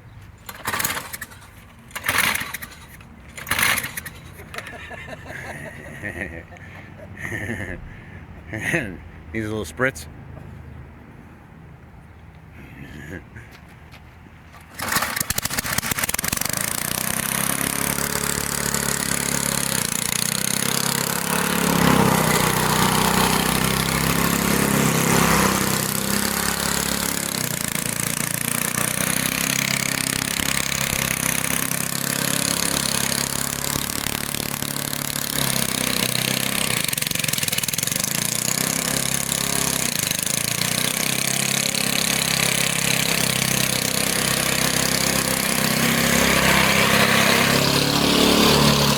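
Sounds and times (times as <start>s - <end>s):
lawn mower engine running hard: 0.5s - 7.7s, 14.6s - 48.9s.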